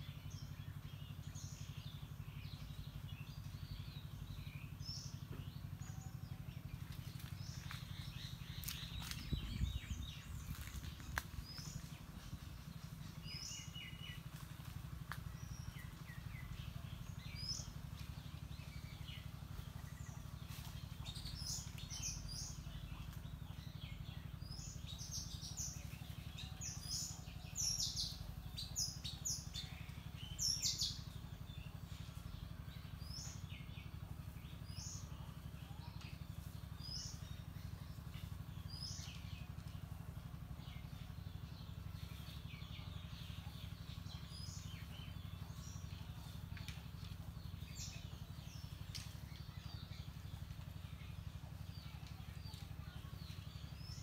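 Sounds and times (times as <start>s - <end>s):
low background rumble: 0.0s - 54.0s
small birds chirping: 0.0s - 54.0s.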